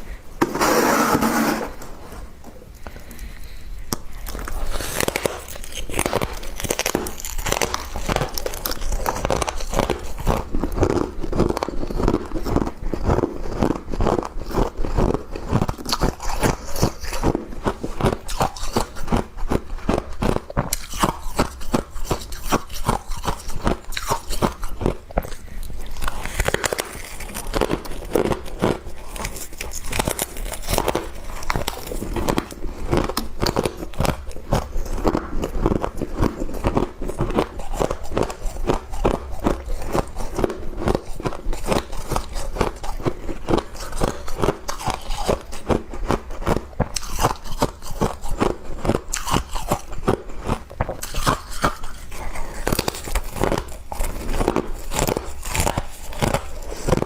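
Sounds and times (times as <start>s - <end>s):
frost crunching while chewed: 2.5s - 57.0s.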